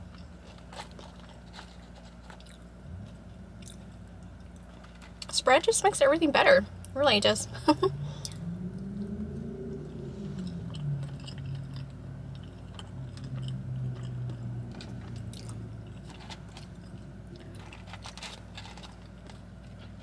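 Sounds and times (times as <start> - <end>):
person chewing food: 0.0 - 5.3, 7.9 - 20.0.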